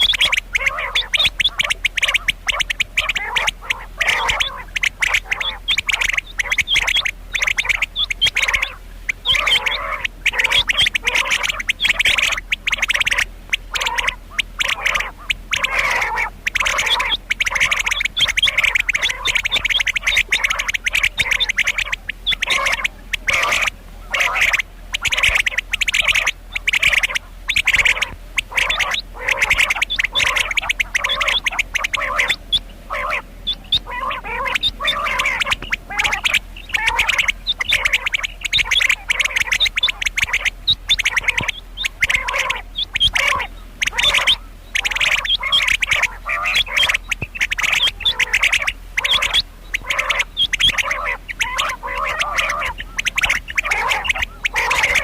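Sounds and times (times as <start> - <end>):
quail raspy chatter: 0.0 - 55.0.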